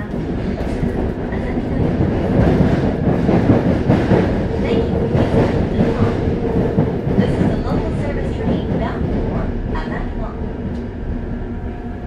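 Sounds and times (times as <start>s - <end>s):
train wheels rumbling and clicking: 0.0s - 12.0s.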